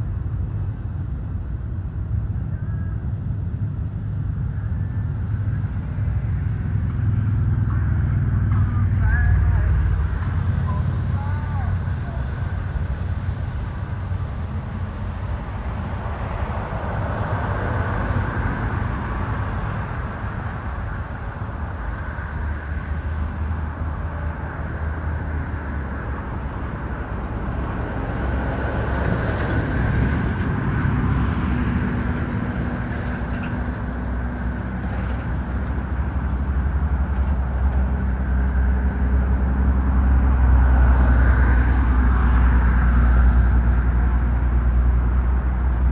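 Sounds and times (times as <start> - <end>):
jet engines running: 0.1 - 43.0.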